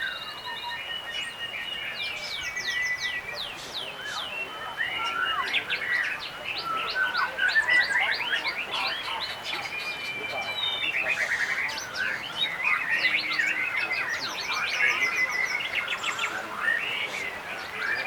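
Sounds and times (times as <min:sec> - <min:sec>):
songbirds whistling: 0:00.0 - 0:18.0.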